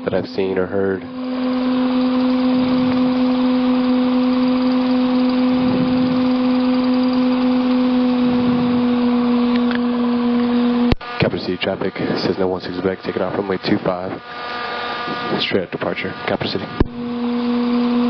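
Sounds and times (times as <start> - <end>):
airplane engine drone: 0.0 - 18.0.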